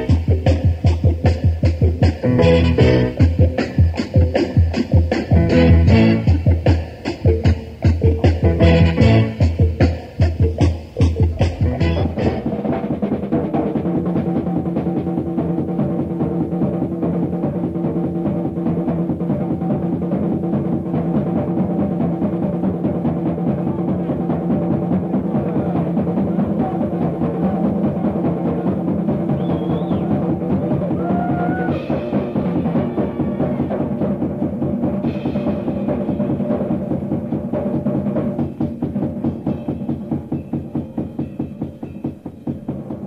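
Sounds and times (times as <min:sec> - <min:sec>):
fast drumming and percussion: 0:00.0 - 0:43.0
jazz-rock band music: 0:00.0 - 0:43.0.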